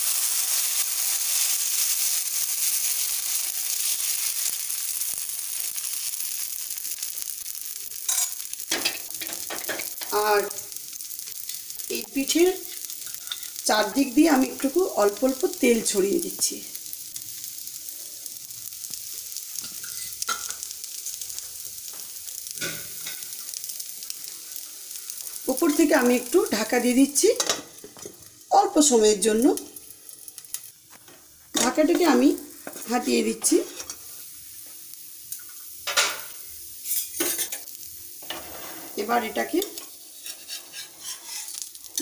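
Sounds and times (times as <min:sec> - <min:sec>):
batter sizzling on a hot pan: 0:00.0 - 0:42.0.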